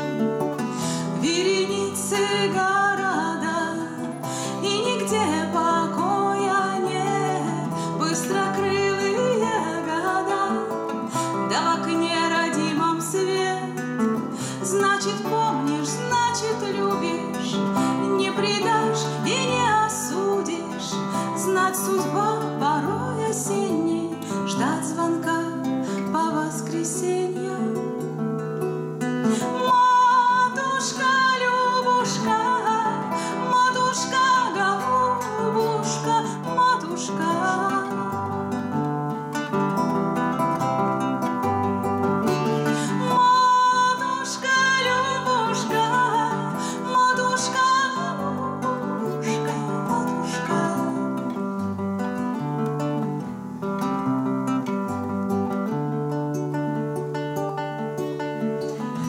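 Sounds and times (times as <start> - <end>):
woman singing: 0.0 - 39.7, 41.3 - 53.8
acoustic guitar strumming: 0.0 - 59.0.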